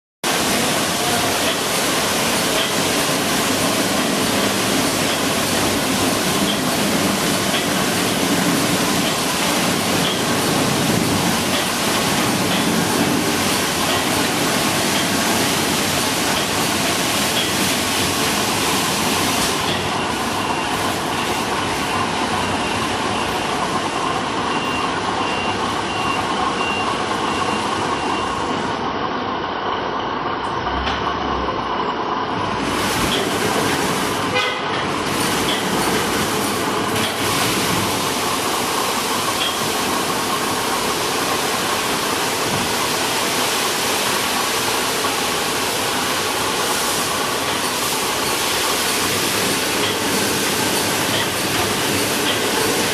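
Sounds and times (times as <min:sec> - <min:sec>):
spraying water: 0:00.2 - 0:24.7, 0:32.5 - 0:52.9
car wash machinery noise: 0:00.2 - 0:52.9.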